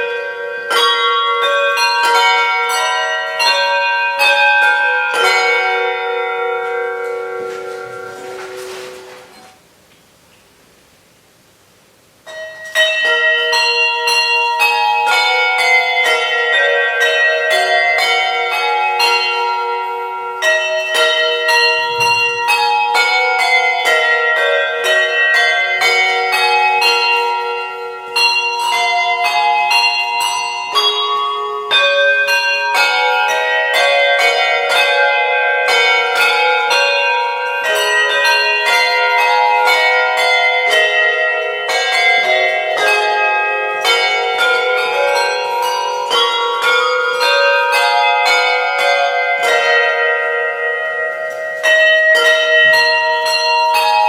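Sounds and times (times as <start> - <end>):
handbells playing: 0.0 - 9.6, 12.2 - 54.0.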